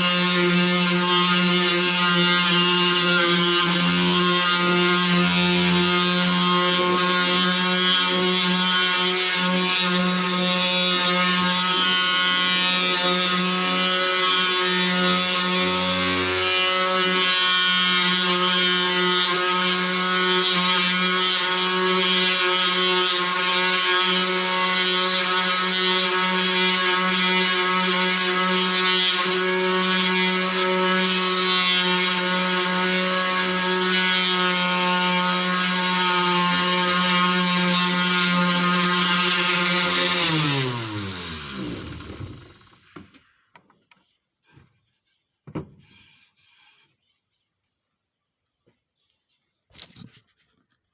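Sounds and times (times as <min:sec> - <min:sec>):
electric sander running: 0:00.0 - 0:43.0.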